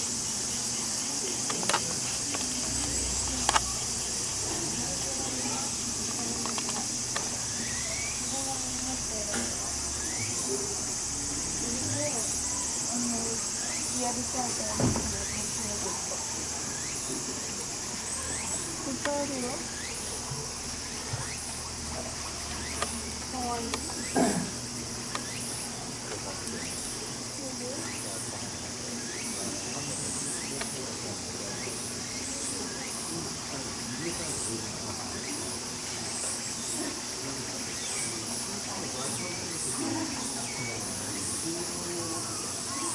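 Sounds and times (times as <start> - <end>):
faint distant voices: 0.0 - 42.9
high-pitched insect chorus: 0.0 - 42.9.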